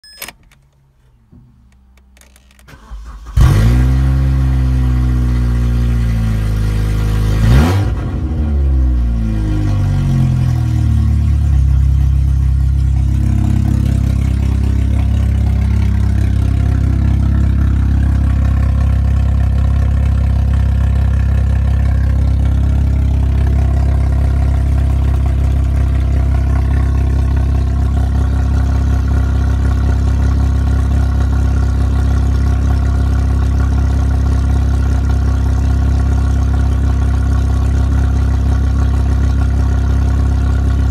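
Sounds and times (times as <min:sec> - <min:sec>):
car engine starting and idling: 0:00.1 - 0:40.9.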